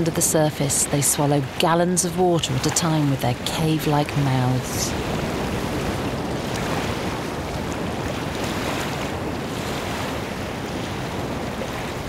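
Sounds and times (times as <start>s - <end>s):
sea water rushing and churning: 0.0s - 12.0s.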